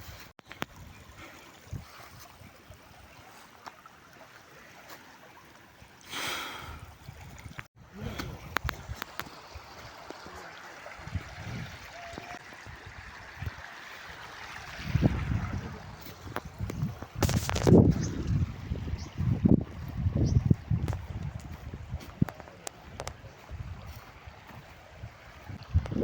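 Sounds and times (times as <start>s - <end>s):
water running steadily: 0.5s - 26.0s.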